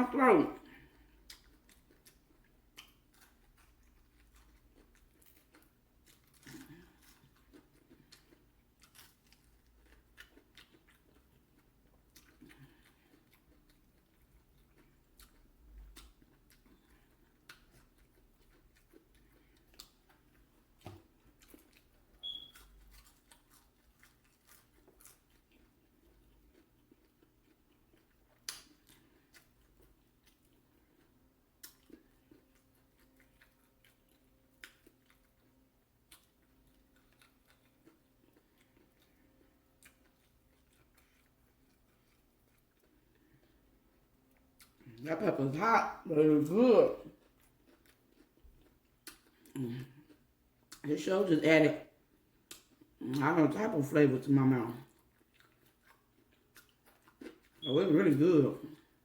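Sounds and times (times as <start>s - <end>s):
chewing and biting food: 0.1s - 50.9s, 51.8s - 53.7s, 54.4s - 59.0s.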